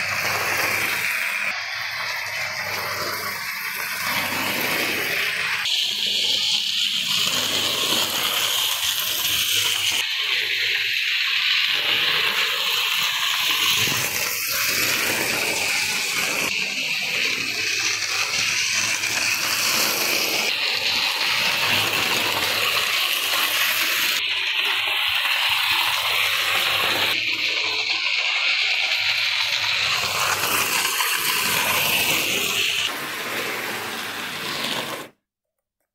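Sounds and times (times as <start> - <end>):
model train motor whirring: 0.0 - 35.2.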